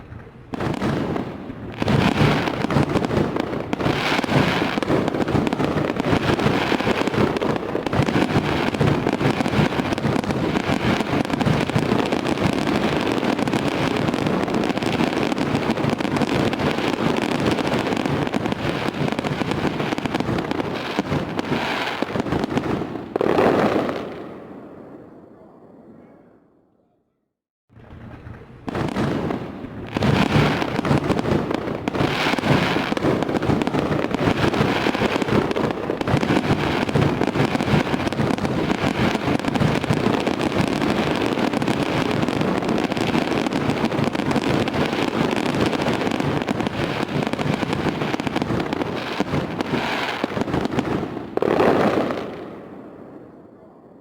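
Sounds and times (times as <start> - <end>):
fireworks crackling and popping: 0.0 - 24.5, 27.7 - 53.1
deep rumble of fireworks bursts: 0.0 - 26.3, 27.7 - 54.0.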